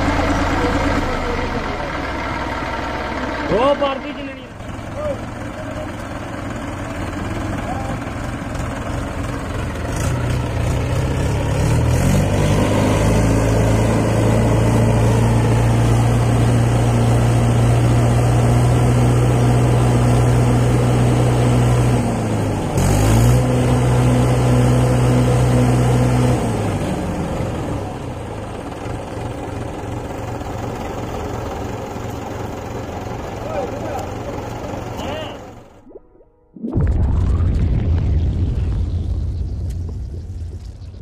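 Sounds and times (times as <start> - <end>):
tractor diesel engine revving: 0.0 - 35.8.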